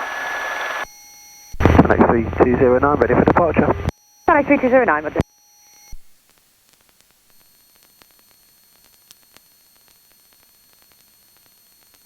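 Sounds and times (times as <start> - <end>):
radio hiss with crackles: 0.0 - 0.9, 1.5 - 12.0.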